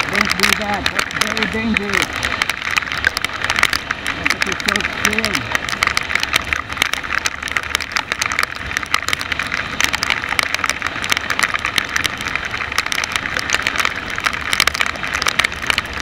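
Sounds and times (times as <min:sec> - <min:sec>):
raindrops hitting microphone: 0:00.0 - 0:16.0
wet road noise from vehicle: 0:00.0 - 0:16.0.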